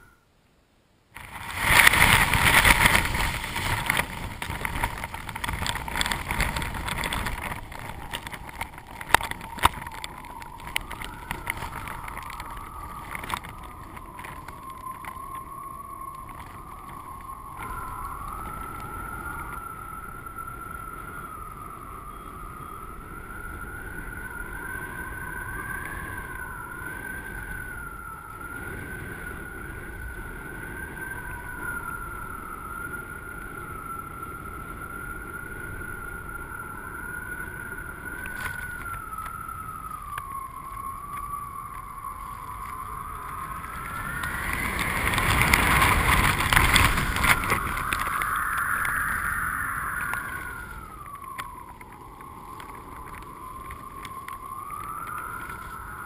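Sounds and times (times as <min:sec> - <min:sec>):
high wavering whistle: 0:00.0 - 0:00.3, 0:01.2 - 0:56.0
wind rushing over camera: 0:00.0 - 0:56.0.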